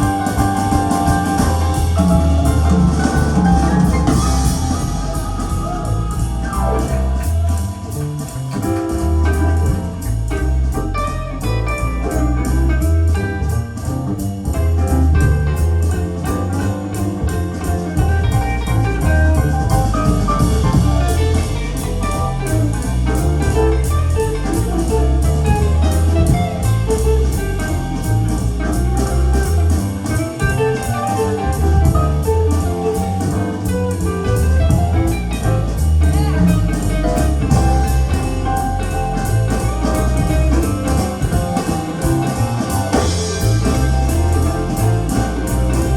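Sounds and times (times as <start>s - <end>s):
guitar music with drums: 0.0s - 45.9s.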